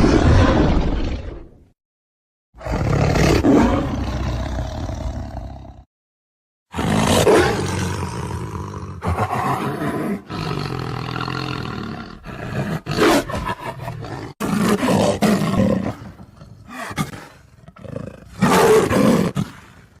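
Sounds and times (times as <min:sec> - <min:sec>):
leopard roaring: 0:02.6 - 0:05.8, 0:06.7 - 0:19.8.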